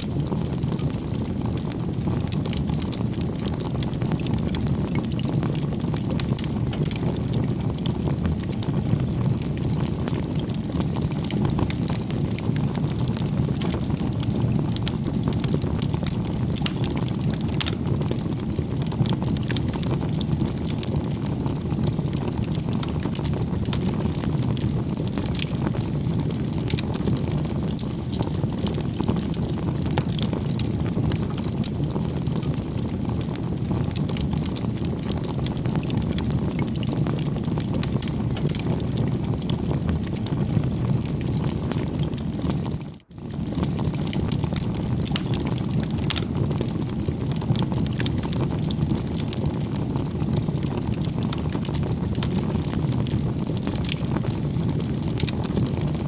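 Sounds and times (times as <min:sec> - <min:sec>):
fire crackling and popping: 0:00.0 - 0:56.0
wood fire rumbling: 0:00.0 - 0:56.0.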